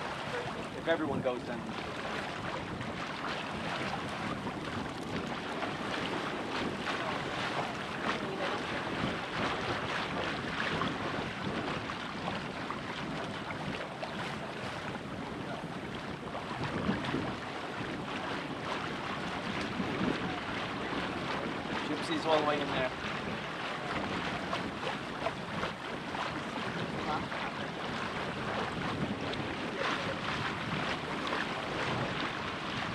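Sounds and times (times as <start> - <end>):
water rushing along hull: 0.0 - 32.9
wind buffeting microphone: 0.0 - 32.9.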